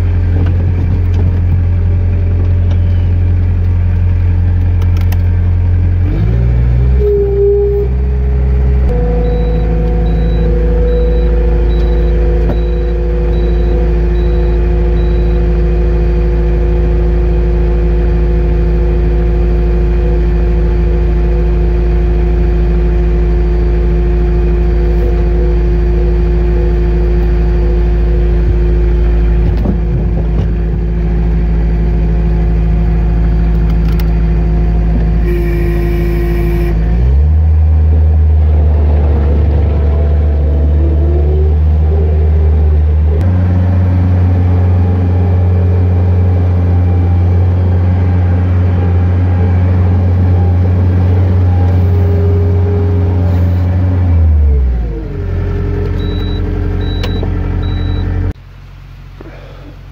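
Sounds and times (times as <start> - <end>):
skid loader engine running: 0.0 - 59.9.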